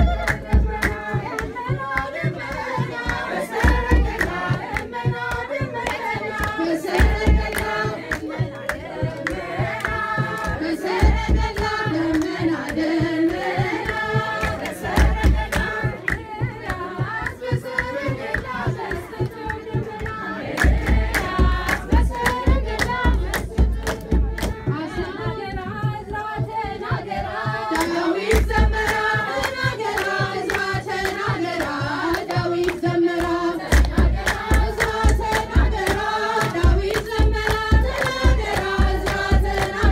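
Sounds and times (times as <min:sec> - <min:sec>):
hand clapping: 0:00.0 - 0:24.7, 0:27.7 - 0:39.9
women singing a hymn: 0:00.0 - 0:39.9
drum strokes: 0:06.2 - 0:19.8, 0:20.6 - 0:39.9.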